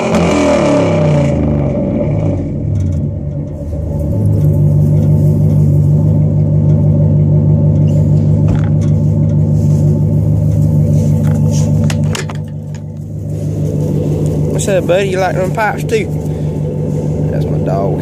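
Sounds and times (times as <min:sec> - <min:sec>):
truck engine low exhaust note: 0:00.0 - 0:18.0.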